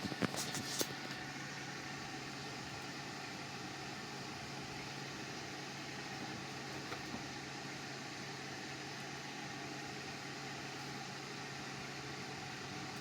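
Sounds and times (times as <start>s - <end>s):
steady low hum and hiss: 0.0s - 13.0s.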